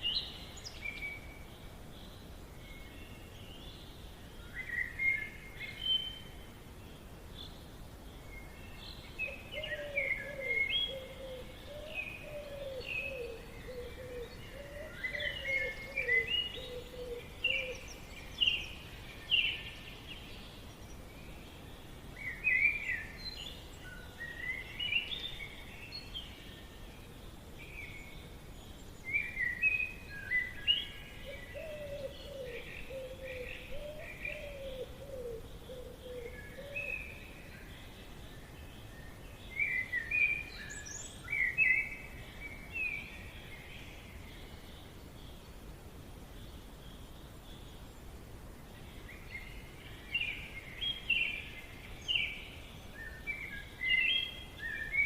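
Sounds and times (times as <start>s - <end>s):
faint steady background hiss: 0.0s - 55.0s
songbirds chirping and singing: 0.0s - 55.0s.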